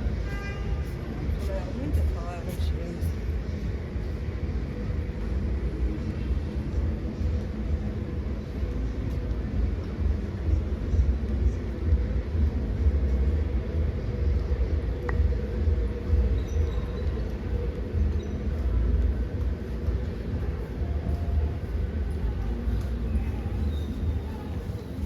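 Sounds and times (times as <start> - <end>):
low rumble of city traffic: 0.0 - 25.0.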